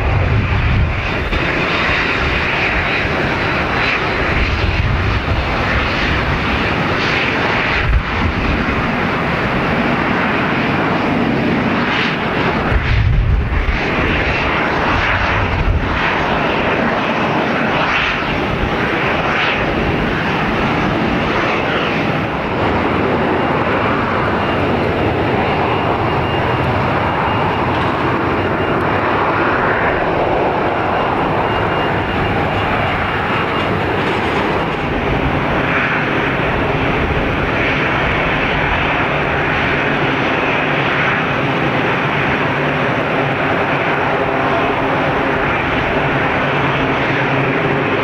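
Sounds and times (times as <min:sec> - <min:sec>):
aircraft engines running: 0:00.0 - 0:48.0.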